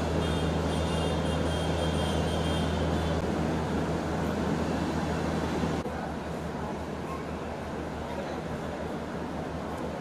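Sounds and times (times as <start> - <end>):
station background noise: 0.0 - 10.0
train engine humming: 0.0 - 10.0.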